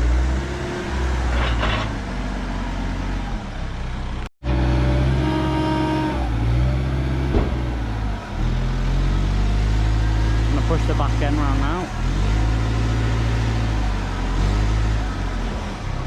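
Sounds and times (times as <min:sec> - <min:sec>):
diesel engine under load: 0:00.0 - 0:16.0.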